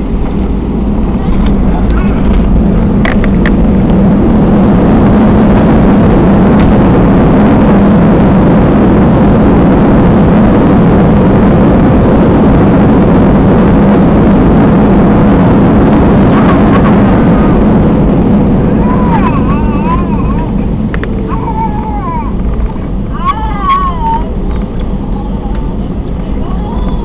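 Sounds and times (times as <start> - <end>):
airliner cabin roar: 0.0 - 27.0.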